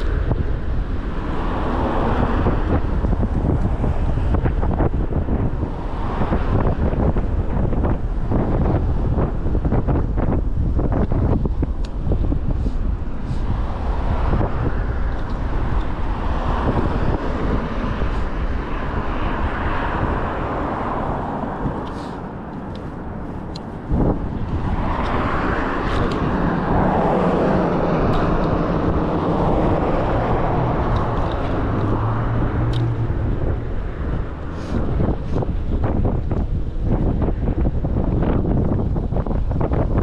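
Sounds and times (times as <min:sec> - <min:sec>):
road rumble: 0:00.0 - 0:40.0
wind buffeting microphone: 0:00.0 - 0:40.0.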